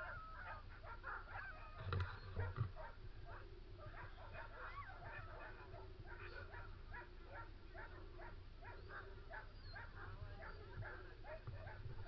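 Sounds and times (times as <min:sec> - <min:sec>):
huskies yelping and barking: 0:00.0 - 0:12.0.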